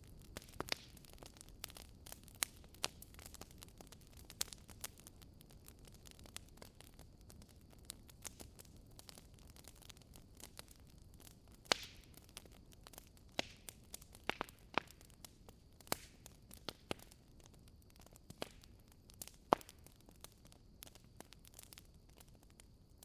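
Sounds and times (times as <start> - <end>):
wood logs crackling in fireplace: 0.0 - 23.0.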